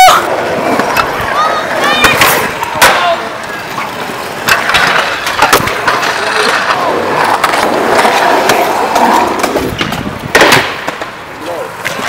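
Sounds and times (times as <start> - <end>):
wheels rolling on concrete: 0.0 - 12.0.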